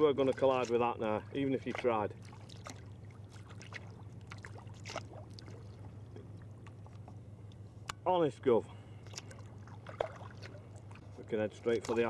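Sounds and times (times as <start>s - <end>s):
kayak paddles splashing water: 0.0s - 7.2s, 9.0s - 12.0s
steady low hum: 0.0s - 12.0s.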